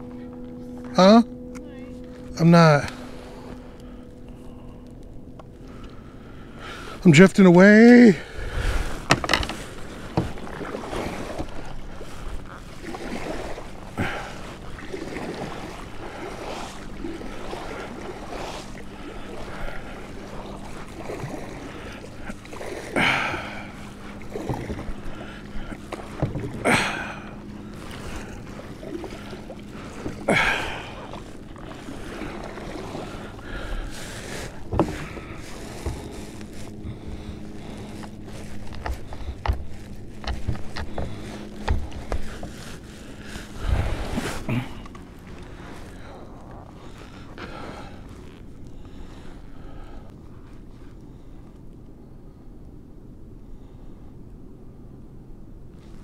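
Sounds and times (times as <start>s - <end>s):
paddle strokes through water: 0.0s - 56.0s.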